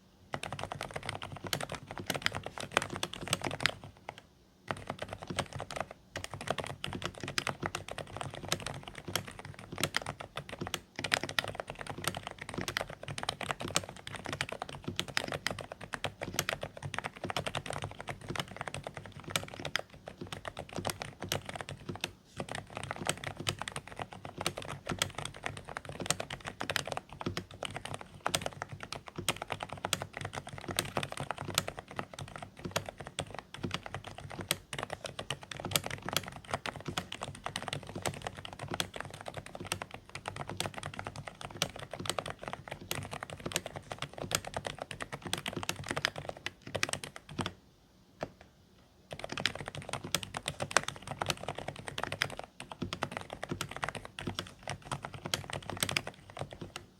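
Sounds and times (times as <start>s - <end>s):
fast typing on mechanical keyboard: 0.3s - 47.6s, 49.1s - 56.9s.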